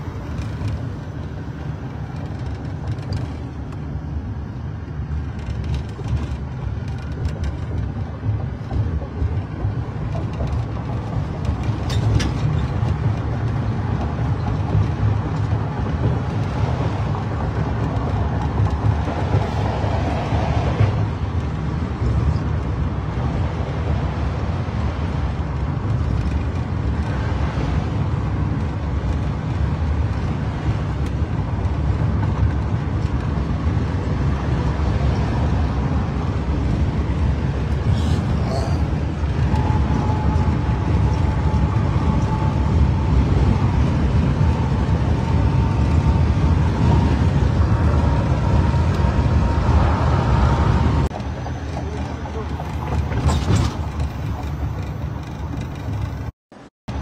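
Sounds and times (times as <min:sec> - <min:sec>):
car engine and tyres rumble: 0:00.0 - 0:57.0.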